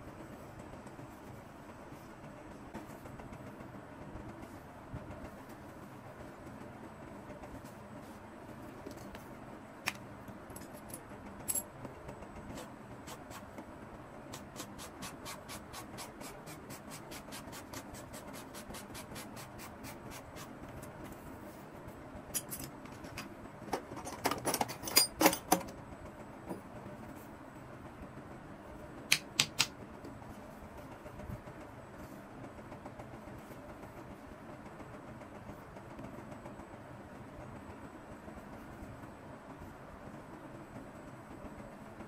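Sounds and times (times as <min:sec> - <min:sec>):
low background noise: 0:00.0 - 0:42.0.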